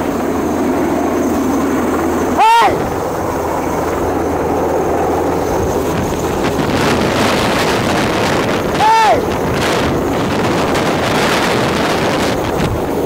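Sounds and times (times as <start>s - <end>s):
helicopter rotor rumbling: 0.0s - 13.0s
wind buffeting microphone: 0.0s - 13.0s.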